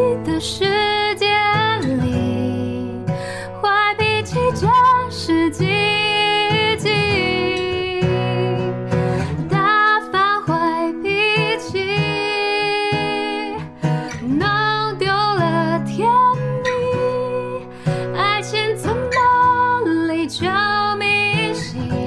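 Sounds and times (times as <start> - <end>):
acoustic guitar chords: 0.0 - 22.0
woman singing slow song: 0.0 - 22.0.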